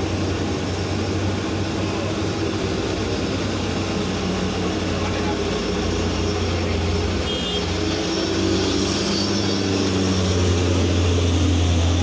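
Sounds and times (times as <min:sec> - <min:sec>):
heavy vehicle engine droning: 0:00.0 - 0:12.0.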